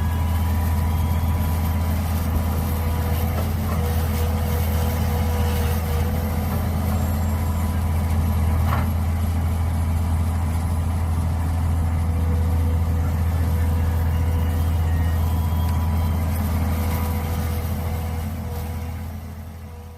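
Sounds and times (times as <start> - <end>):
excavator engine running: 0.0 - 19.9.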